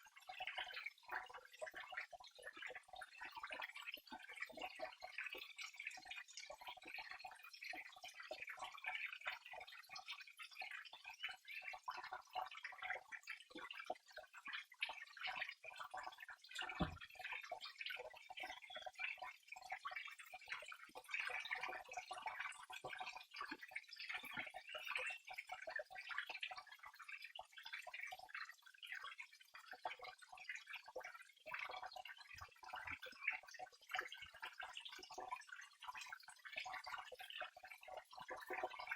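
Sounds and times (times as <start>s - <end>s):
water trickling: 0.2s - 38.9s.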